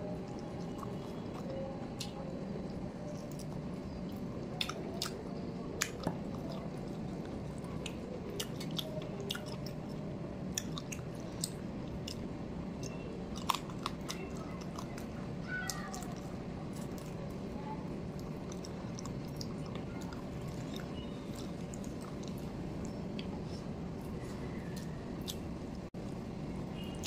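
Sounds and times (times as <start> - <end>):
chewing and biting: 0.0 - 25.8.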